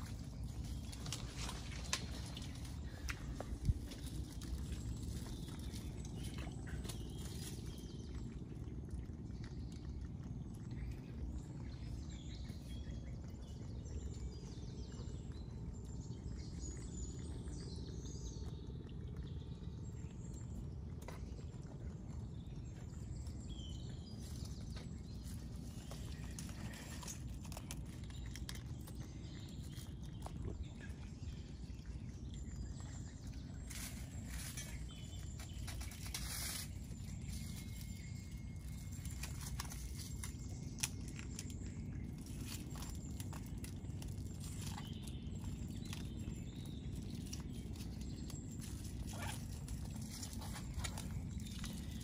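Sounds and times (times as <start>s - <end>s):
birds chirping: 0.0s - 52.0s
steady low rumble: 0.0s - 52.0s.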